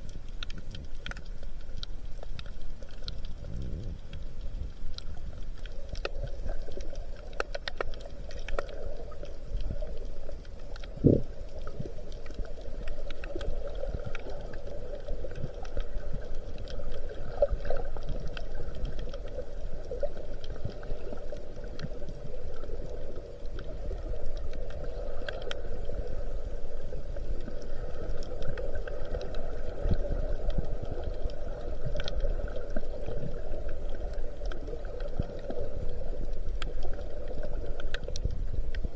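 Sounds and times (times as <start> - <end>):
faint clicks and crackles: 0.0 - 38.9
muffled underwater hiss and hum: 0.0 - 38.9.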